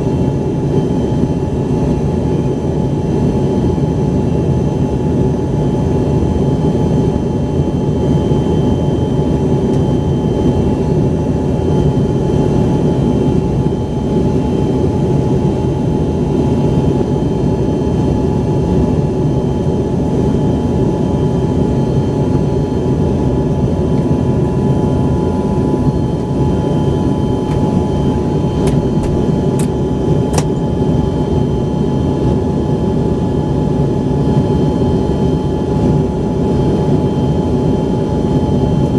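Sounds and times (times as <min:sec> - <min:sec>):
high engine whine: 0:00.0 - 0:38.9
jet engines rumbling in cabin: 0:00.0 - 0:38.9.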